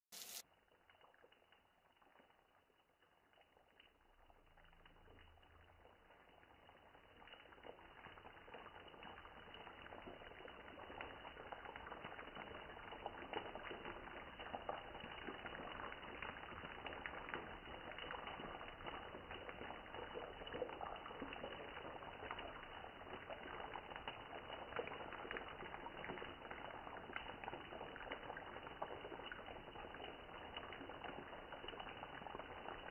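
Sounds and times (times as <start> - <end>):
fish sizzling in hot oil: 0.1 - 32.9.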